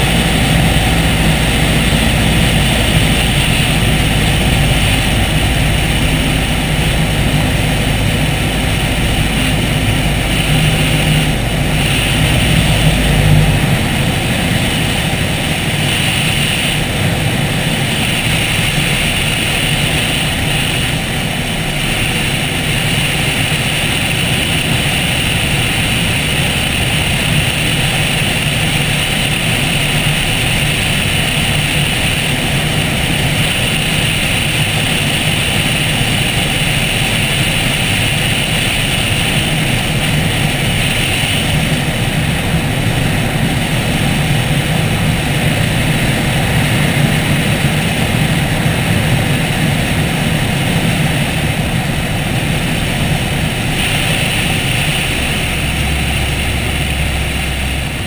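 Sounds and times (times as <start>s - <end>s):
light aircraft engine and propeller: 0.0s - 58.0s
rushing air: 0.0s - 58.0s.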